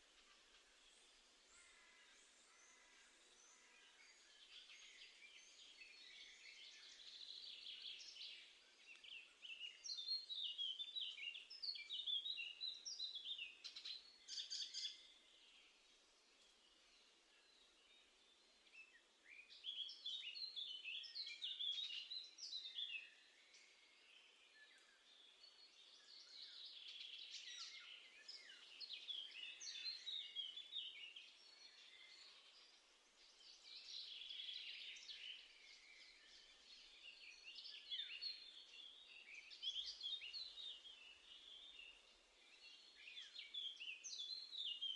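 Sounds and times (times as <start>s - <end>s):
soft outdoor hiss: 0.0s - 44.9s
songbirds twittering: 0.0s - 44.9s.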